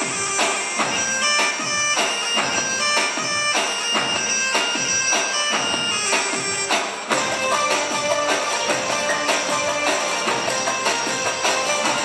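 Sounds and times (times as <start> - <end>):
reedy wind instrument melody: 0.0 - 12.0
steady drum beat: 0.0 - 12.0.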